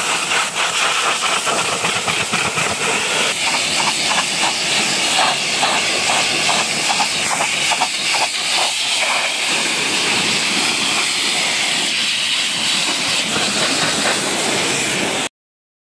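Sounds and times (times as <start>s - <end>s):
pressure washer jet hissing: 0.0s - 15.3s.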